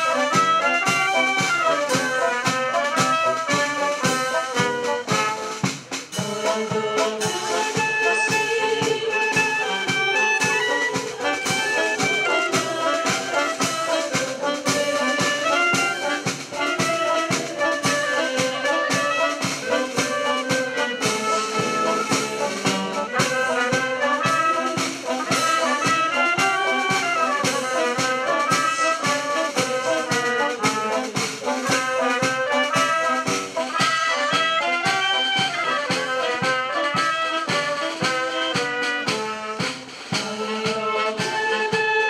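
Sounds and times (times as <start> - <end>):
brass band playing: 0.0 - 42.0.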